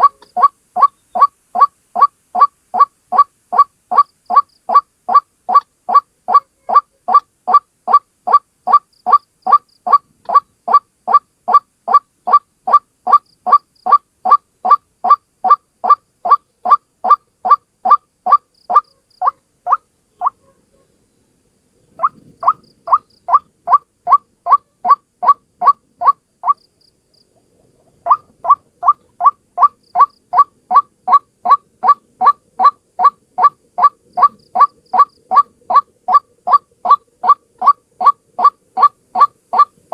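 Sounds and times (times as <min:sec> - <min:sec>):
waterhen calling: 0:00.0 - 0:21.0, 0:21.9 - 0:39.9.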